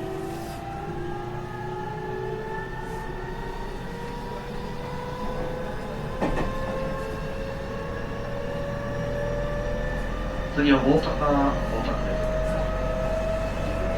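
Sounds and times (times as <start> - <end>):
rumble of train wheels: 0.0 - 13.9
train inverter whining: 0.0 - 13.9.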